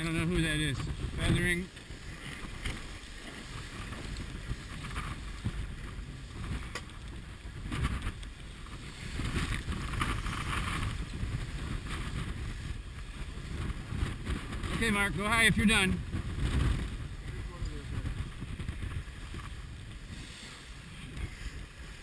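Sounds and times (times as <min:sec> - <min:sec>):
water rushing past hull: 0:00.0 - 0:22.0
wind buffeting microphone: 0:00.0 - 0:22.0.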